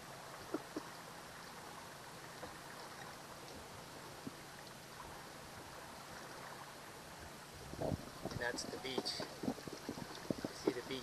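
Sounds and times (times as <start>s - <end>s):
faint boat motor hum: 0.0s - 11.0s
water washing along hull: 0.0s - 11.0s.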